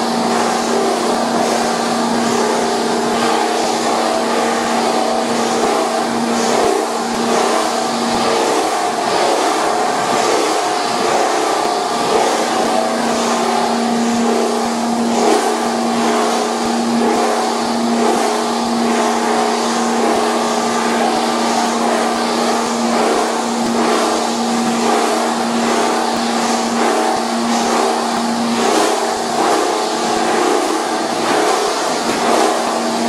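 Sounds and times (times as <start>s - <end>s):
motor hum: 0.0s - 33.0s.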